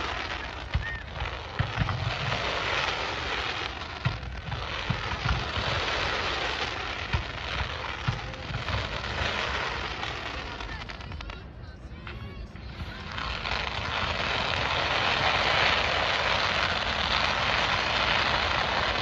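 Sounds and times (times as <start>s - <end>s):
fireworks crackling hiss: 0.0s - 19.0s.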